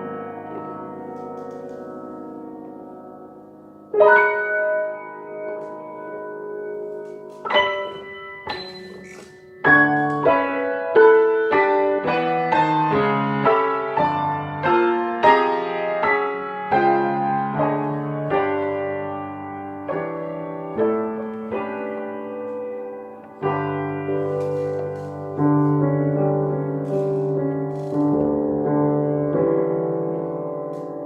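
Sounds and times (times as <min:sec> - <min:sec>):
piano melody: 0:00.0 - 0:31.0.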